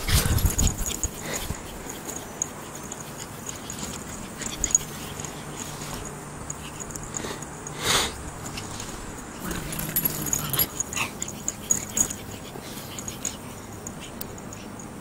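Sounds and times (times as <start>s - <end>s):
dogs playing noises: 0.0s - 15.0s.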